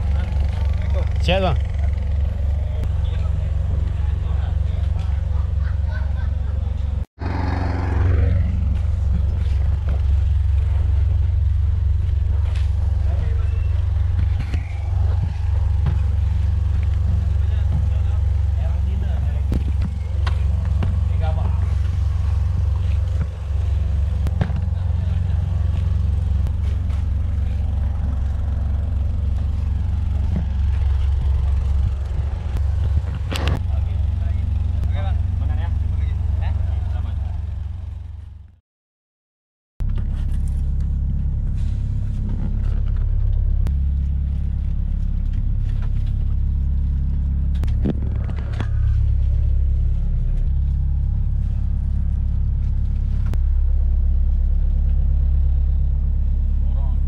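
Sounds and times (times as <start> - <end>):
engine droning: 0.0 - 38.6, 39.8 - 57.0.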